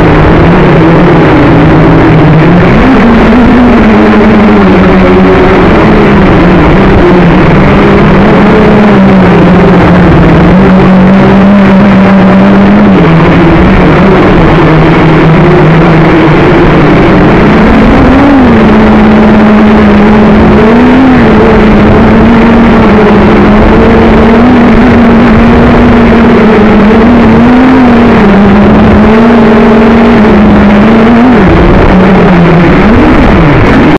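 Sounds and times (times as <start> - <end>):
drone motors humming: 0.0 - 33.9
wind noise on microphone: 0.0 - 33.9.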